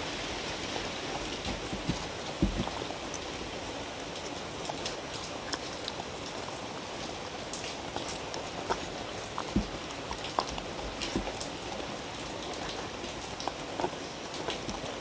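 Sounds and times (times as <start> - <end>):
dog chewing and crunching food: 0.0 - 15.0
steady hiss: 0.0 - 15.0.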